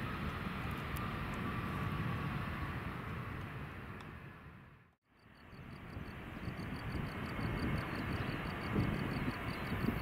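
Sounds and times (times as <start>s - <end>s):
distant jet engines rumbling: 0.0s - 10.0s.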